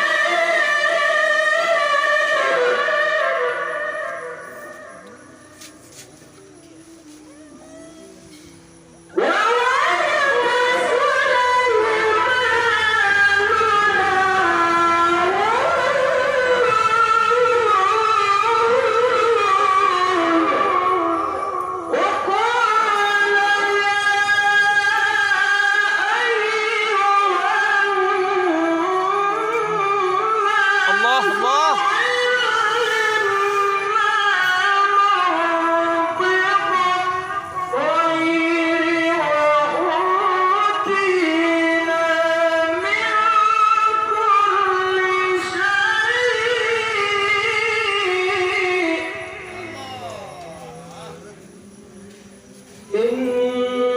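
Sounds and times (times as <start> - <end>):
person reciting melodically: 0.0 - 53.9.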